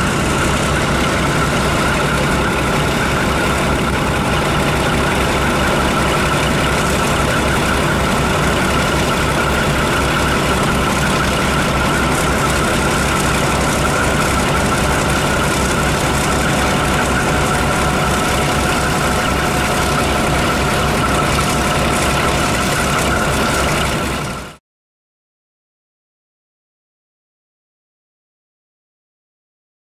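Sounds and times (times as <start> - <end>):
diesel locomotive engine running: 0.0 - 24.6.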